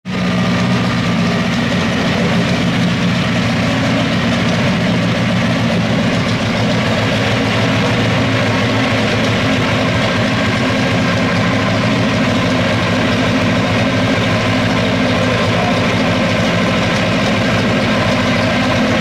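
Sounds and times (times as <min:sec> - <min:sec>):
racing car engine idling: 0:00.0 - 0:19.0.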